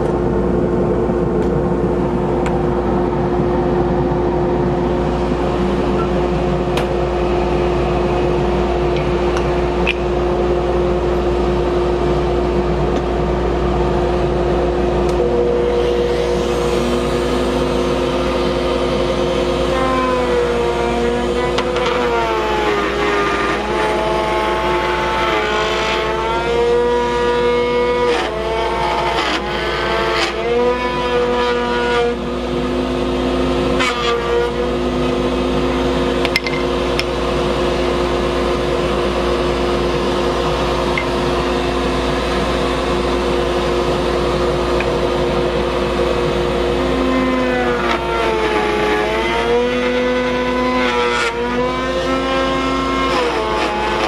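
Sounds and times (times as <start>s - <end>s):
router motor hum: 0.0s - 54.0s
router cutting wood: 1.3s - 54.0s.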